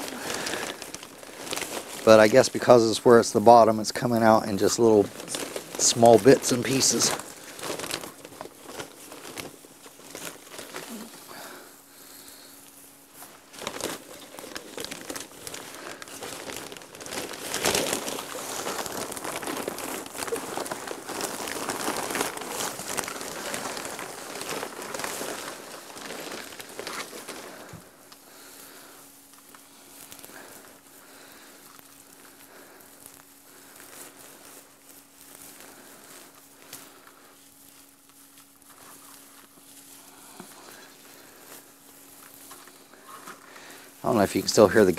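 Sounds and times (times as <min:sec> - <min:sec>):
dry hay crinkling and rustling: 0:00.0 - 0:44.9.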